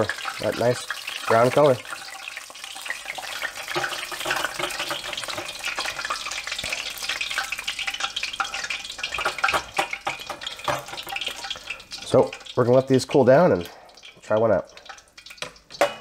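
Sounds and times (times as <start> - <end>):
oil sizzling while deep-frying: 0.0 - 16.0.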